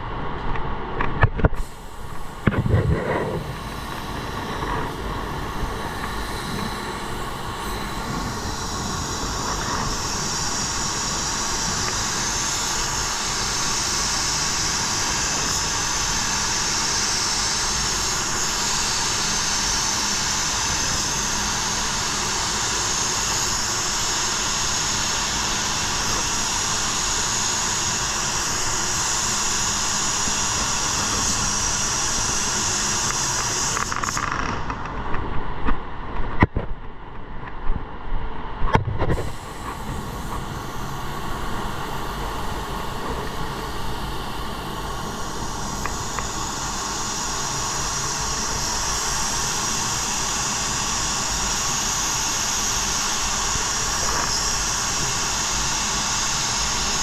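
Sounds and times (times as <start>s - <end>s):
spray gun hissing: 1.6s - 34.4s, 39.2s - 57.0s.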